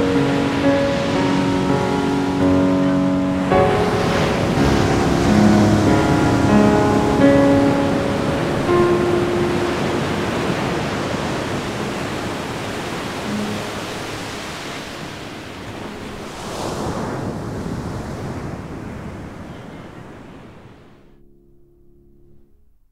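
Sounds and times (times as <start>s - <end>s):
ocean surf washing on beach: 0.0s - 21.1s.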